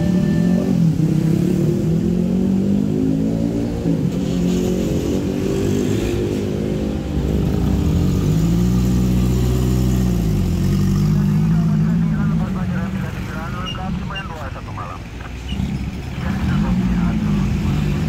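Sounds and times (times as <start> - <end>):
car engines passing: 0.0 - 18.0
motorcycle engines revving: 0.0 - 18.0.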